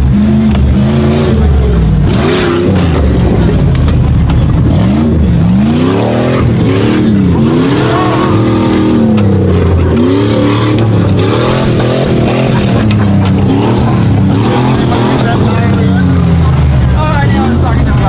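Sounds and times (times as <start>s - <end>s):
engine revving: 0.0s - 18.0s.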